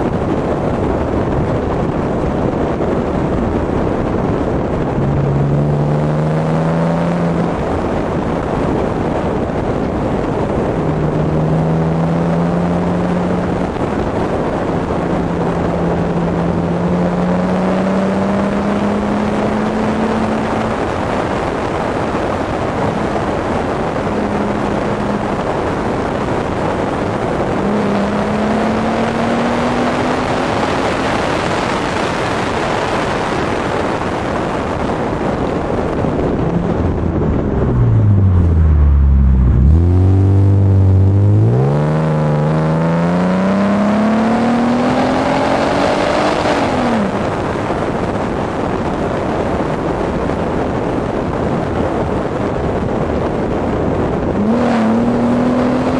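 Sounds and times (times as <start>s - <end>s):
road noise: 0.0s - 55.9s
wind noise: 0.0s - 55.9s
car exhaust engine note: 1.1s - 31.5s, 34.4s - 48.5s, 53.0s - 55.9s.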